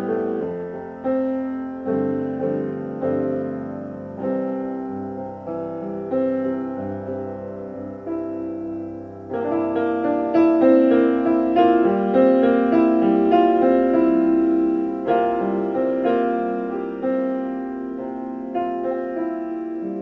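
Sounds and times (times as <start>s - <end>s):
solo piano: 0.0s - 20.0s.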